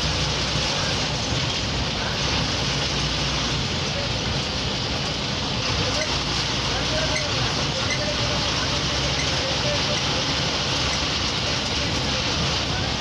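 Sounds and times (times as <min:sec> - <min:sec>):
diesel engine drone: 0:00.0 - 0:13.0
road and wind noise: 0:00.0 - 0:13.0.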